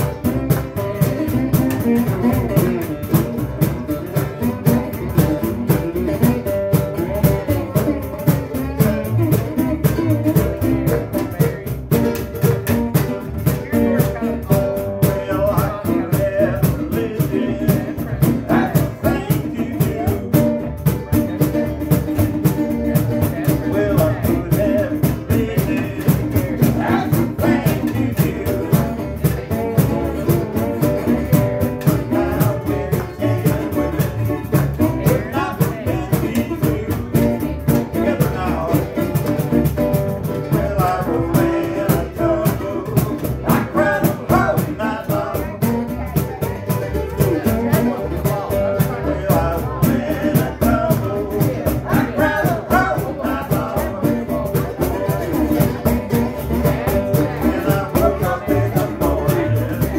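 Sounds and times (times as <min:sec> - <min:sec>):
acoustic band playing: 0:00.0 - 0:59.9
cajon beat: 0:00.0 - 0:59.9.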